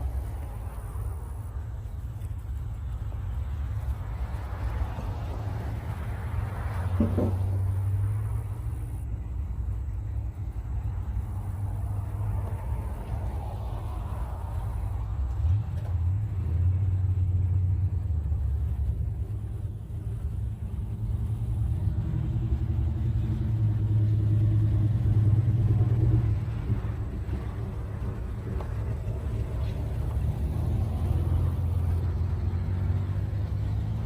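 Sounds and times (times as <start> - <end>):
cars driving past: 0.0 - 34.0.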